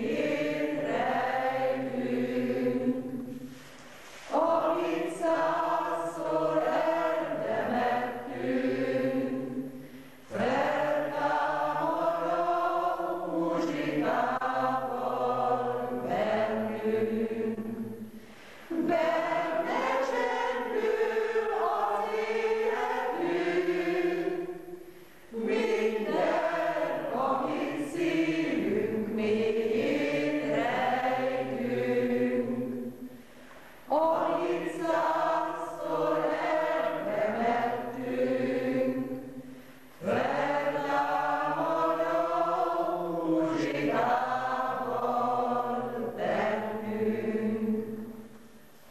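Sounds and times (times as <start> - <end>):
choir singing: 0.0 - 33.2, 33.8 - 48.4.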